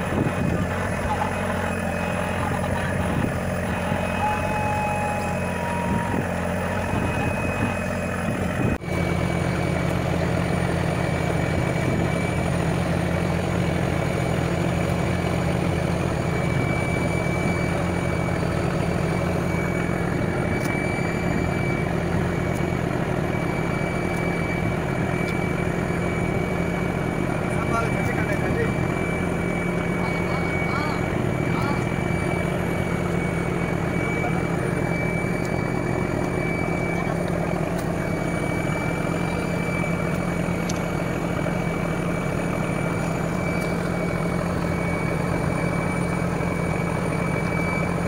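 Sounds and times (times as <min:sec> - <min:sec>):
boat engine drone: 0:00.0 - 0:48.0.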